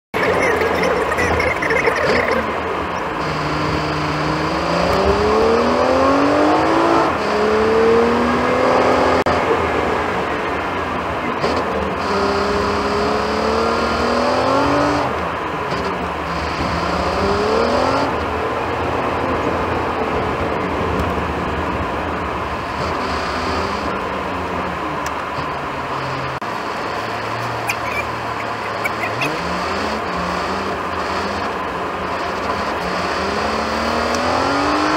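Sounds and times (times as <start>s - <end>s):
car engine revving through gears: 0.2s - 34.9s.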